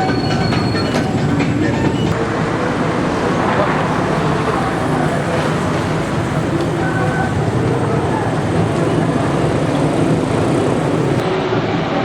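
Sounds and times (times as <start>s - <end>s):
faint voices: 0.0s - 12.0s
vehicle engines and road noise: 0.0s - 12.0s.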